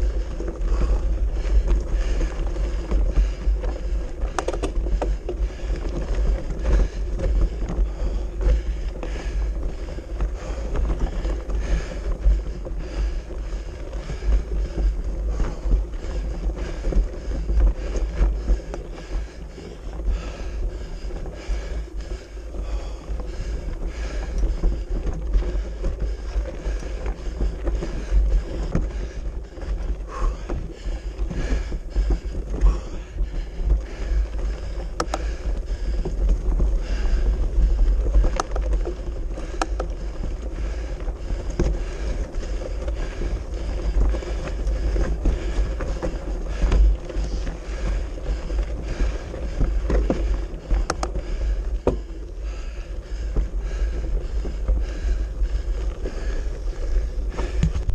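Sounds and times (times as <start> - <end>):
bike rattling: 0.0 - 57.9
tyres crunching on gravel: 0.0 - 57.9
wind rumble on microphone: 0.0 - 57.9.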